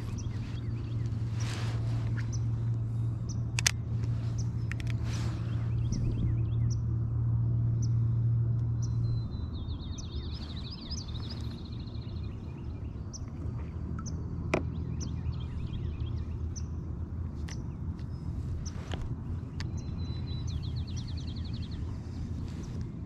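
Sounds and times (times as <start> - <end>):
birds singing and calling: 0.0 - 6.9, 7.8 - 23.0
steady low rumble: 0.0 - 23.0.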